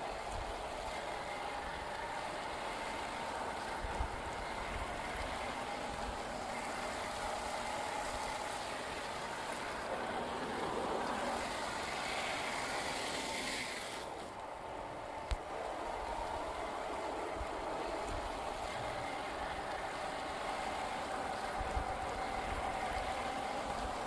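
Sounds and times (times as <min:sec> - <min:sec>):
rc car motor whining: 0:00.0 - 0:24.0
steady noisy hiss: 0:00.0 - 0:24.0.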